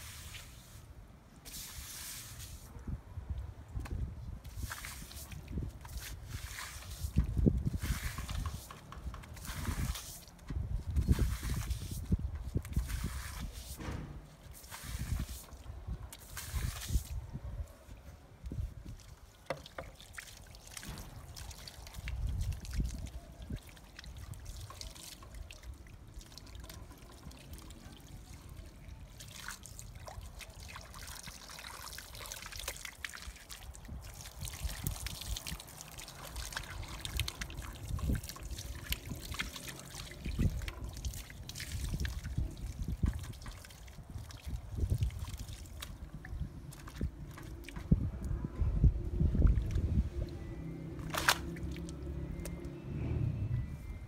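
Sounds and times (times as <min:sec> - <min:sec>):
water trickling from a hose: 0:00.0 - 0:52.8.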